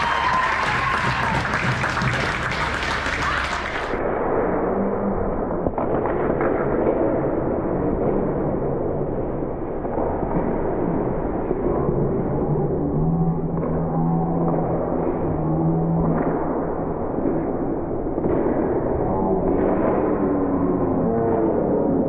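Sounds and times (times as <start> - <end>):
ice rink crowd and game echoing: 0.0 - 22.0.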